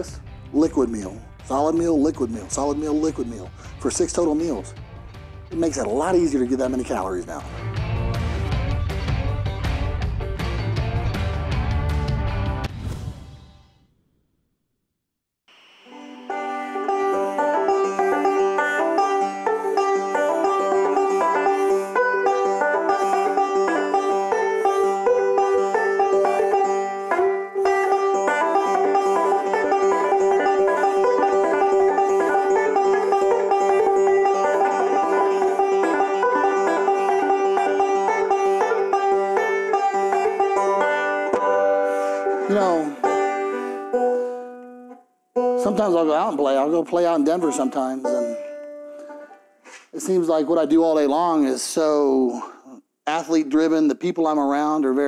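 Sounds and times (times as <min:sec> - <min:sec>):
banjo picked rapidly: 0:00.0 - 0:04.8, 0:05.4 - 0:11.5, 0:16.3 - 0:51.5.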